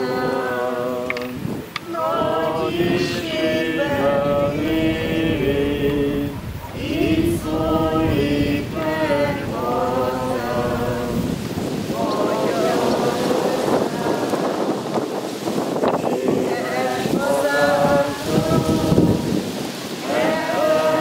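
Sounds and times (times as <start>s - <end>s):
group singing a hymn: 0.0s - 21.0s.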